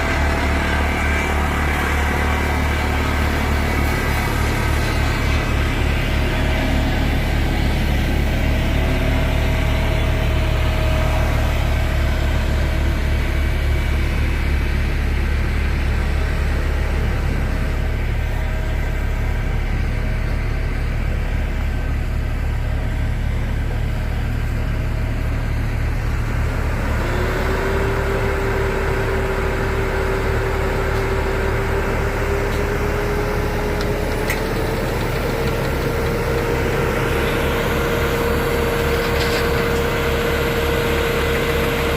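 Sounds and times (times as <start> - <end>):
heavy machine engine pulsing: 0.0 - 41.9.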